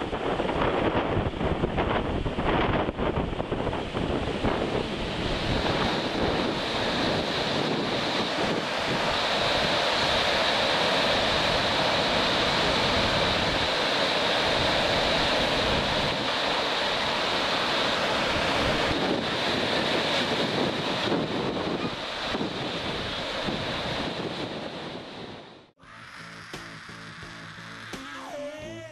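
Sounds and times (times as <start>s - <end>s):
storm wind rushing: 0.0s - 25.7s
wind buffeting microphone: 0.0s - 25.7s
waves: 2.2s - 25.4s.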